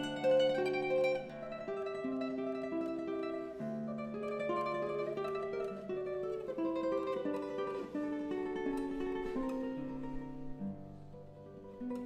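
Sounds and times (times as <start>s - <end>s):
fingerstyle classical guitar: 0.0s - 12.0s.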